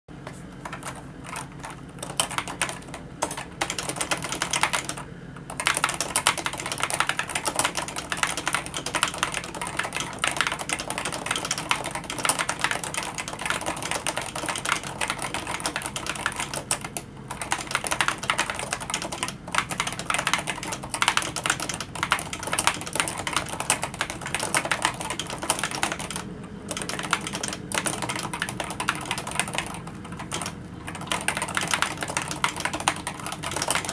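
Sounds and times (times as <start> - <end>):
faint low hum: 0.2 - 33.9
keyboard typing: 0.2 - 33.9.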